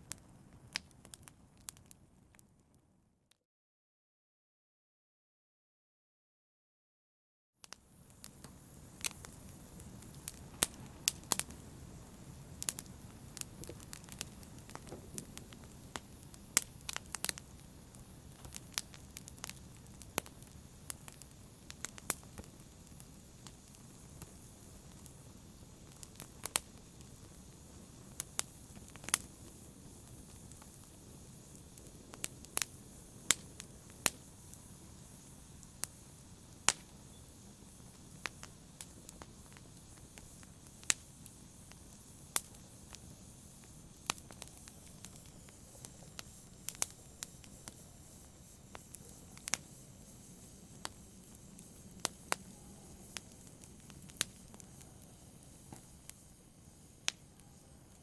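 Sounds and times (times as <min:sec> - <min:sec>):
wood fire crackling and popping: 0:00.0 - 0:02.7, 0:07.6 - 0:58.0.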